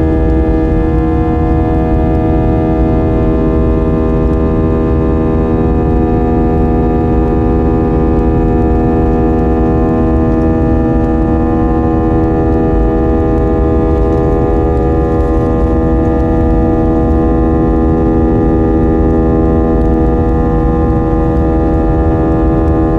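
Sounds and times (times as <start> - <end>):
jet engines humming: 0.0 - 22.9
low engine and air rumble: 0.0 - 22.9.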